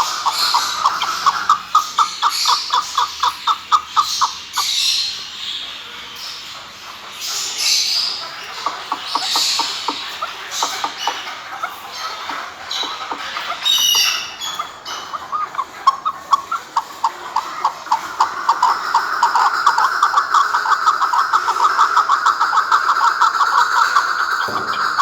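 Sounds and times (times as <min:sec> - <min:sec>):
partridge chuck calls: 0:00.0 - 0:25.0.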